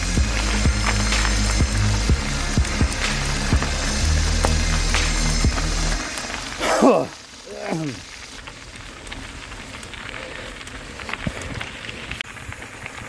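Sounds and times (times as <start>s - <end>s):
bike tyres hissing over gravel: 0.0s - 13.0s.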